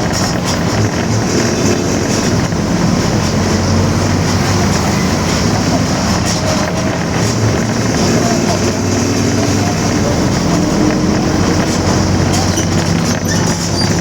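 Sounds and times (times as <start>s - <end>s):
bus diesel engine running: 0.0s - 14.0s
rear differential growling: 0.0s - 14.0s.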